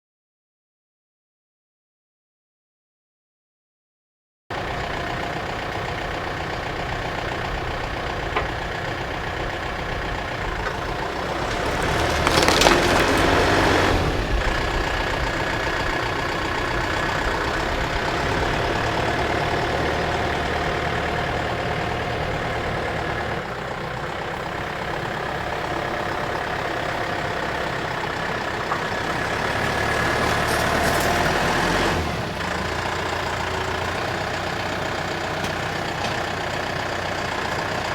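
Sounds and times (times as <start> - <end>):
loader engine running: 4.5 - 37.9.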